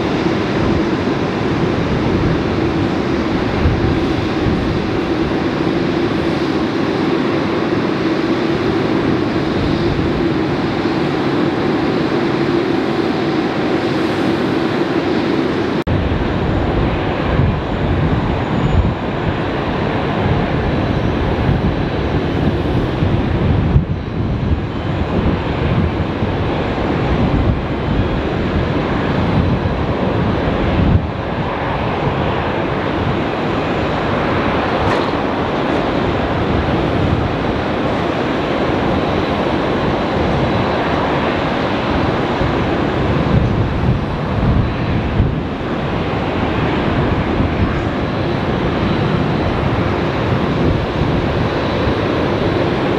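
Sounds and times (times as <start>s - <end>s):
jet engines at takeoff thrust: 0.0s - 52.9s
jet engines rumbling while taxiing: 0.0s - 52.9s.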